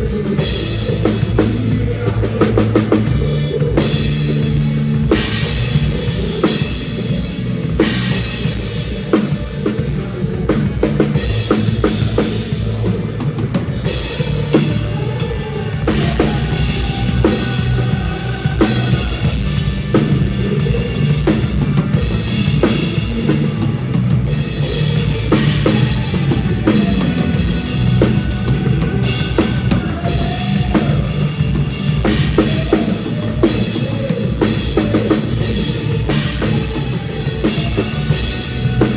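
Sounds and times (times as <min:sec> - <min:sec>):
band music with bass line: 0:00.0 - 0:38.9
drum kit playing a steady beat: 0:00.0 - 0:38.9.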